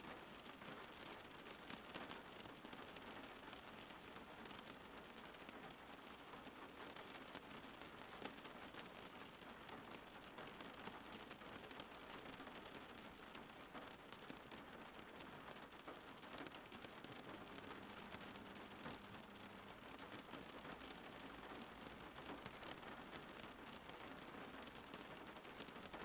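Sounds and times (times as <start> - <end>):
faint steady rain: 0.0 - 26.0.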